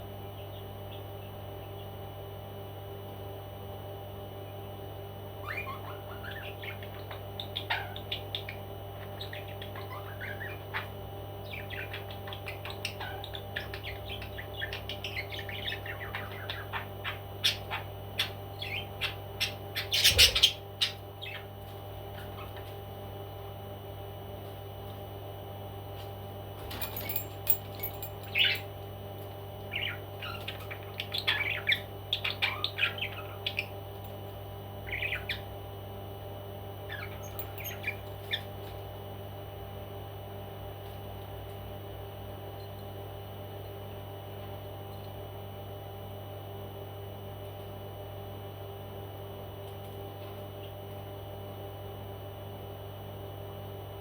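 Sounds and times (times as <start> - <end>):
steady electrical hum: 0.0 - 54.0.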